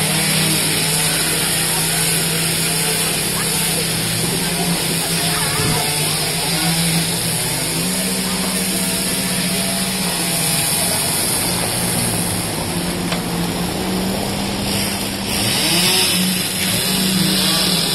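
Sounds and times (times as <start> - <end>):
machinery engine humming: 0.0 - 17.9.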